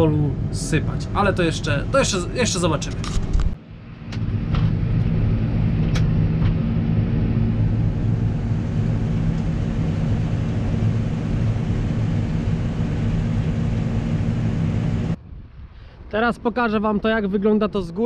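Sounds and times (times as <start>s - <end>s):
combine harvester diesel drone: 0.0s - 15.2s.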